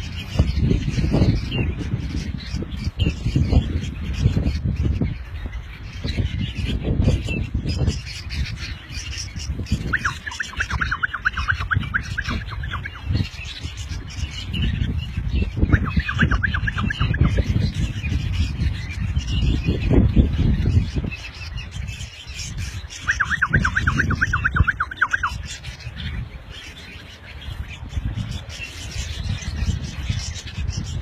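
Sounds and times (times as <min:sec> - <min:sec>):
birds squawking and calling: 0:00.0 - 0:31.0.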